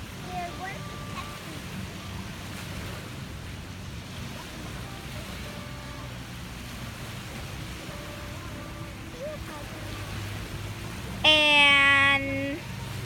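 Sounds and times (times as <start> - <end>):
surf washing onto sandy beach: 0.0 - 13.0.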